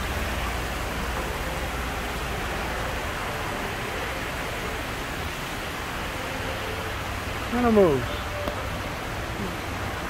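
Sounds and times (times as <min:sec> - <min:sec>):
waterfall rushing over rocks: 0:00.0 - 0:10.0.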